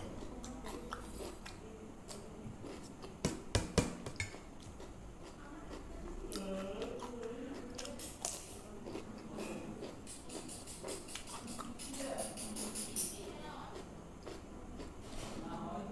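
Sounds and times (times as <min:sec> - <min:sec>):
soft eating sounds: 0:00.0 - 0:15.9.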